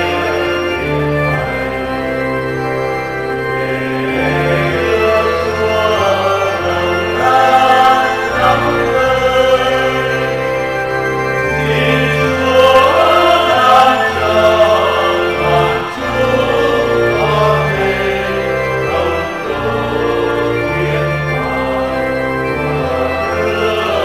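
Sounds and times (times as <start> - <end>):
organ playing hymn chords: 0.0 - 24.0.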